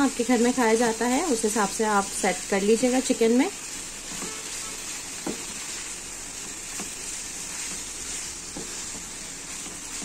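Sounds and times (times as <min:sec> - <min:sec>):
chicken sizzling in a frying pan: 0:00.0 - 0:10.0.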